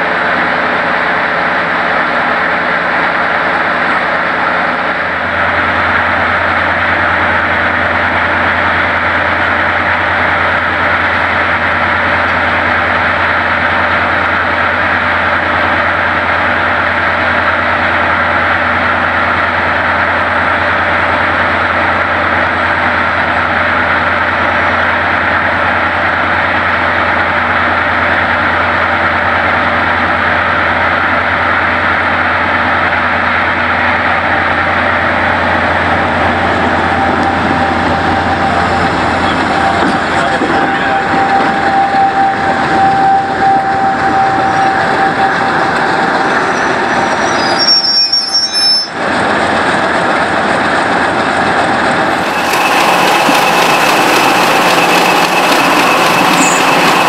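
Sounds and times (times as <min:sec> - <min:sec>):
diesel locomotive idling: 0:00.0 - 0:57.0.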